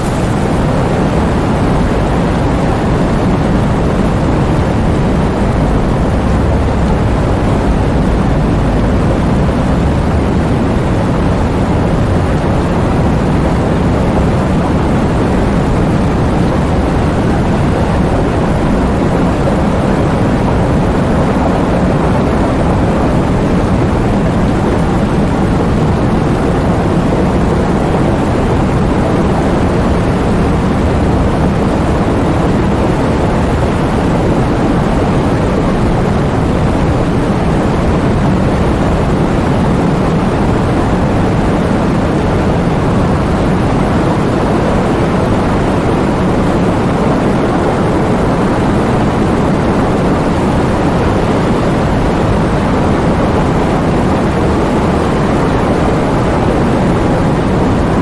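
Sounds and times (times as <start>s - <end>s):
heavy rain in strong wind: 0.0s - 58.0s.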